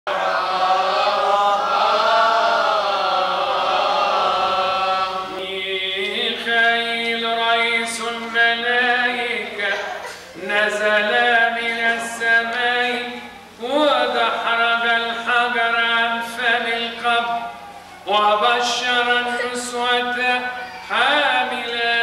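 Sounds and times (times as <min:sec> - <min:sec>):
voices singing liturgical chant: 0:00.1 - 0:22.0.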